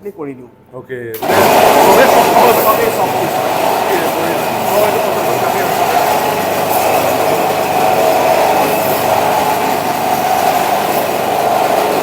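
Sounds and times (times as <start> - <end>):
electric meat saw cutting: 1.2 - 12.0.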